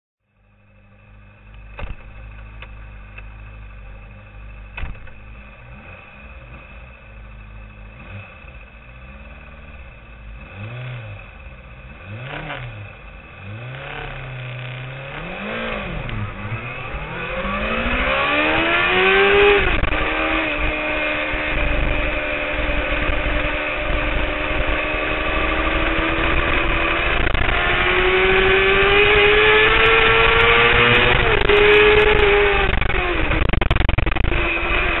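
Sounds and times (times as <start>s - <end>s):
motorcycle engine revving: 1.6s - 35.0s.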